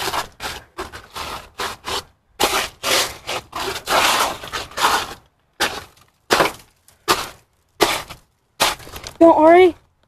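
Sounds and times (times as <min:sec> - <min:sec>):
ice scraping and crunching: 0:00.0 - 0:09.6.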